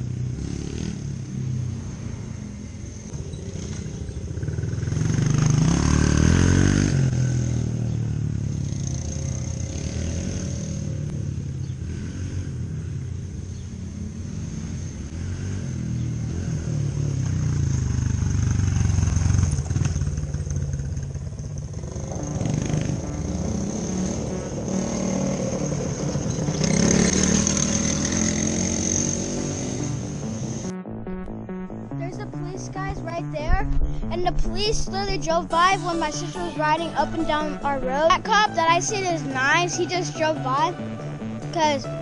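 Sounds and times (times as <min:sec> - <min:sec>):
dirt bike engine revving: 0:00.0 - 0:13.2, 0:13.8 - 0:42.0.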